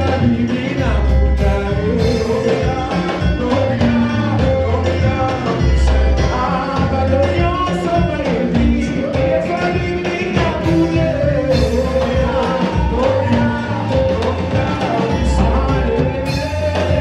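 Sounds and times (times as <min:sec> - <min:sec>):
gospel band playing: 0:00.0 - 0:17.0
person singing: 0:00.0 - 0:17.0.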